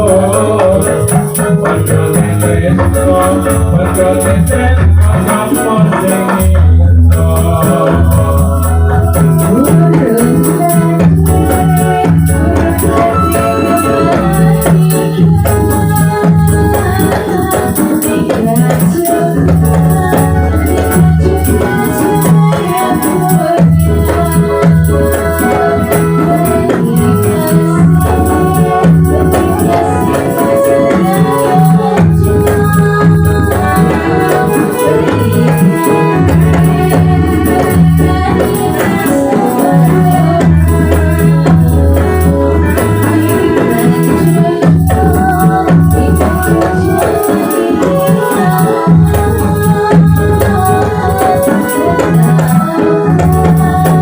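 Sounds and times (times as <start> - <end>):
electronic organ melody: 0.0 - 54.0.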